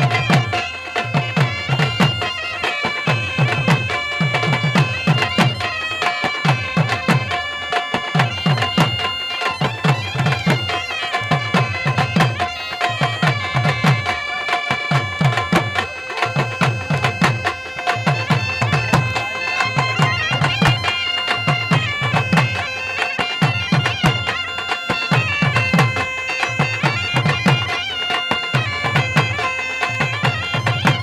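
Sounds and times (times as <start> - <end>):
drum beating: 0.0 - 31.0
reed pipe folk tune over drone: 0.0 - 31.0.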